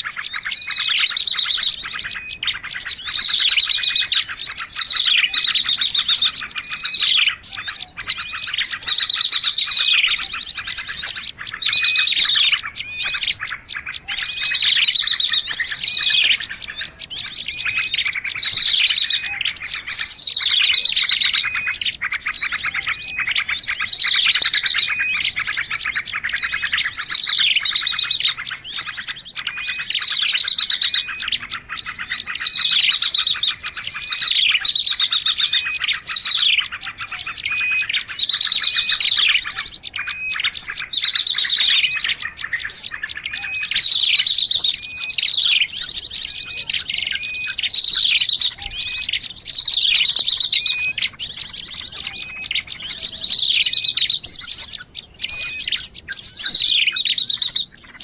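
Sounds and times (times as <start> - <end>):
songbird chirps and buzzy trills: 0.0 - 58.0.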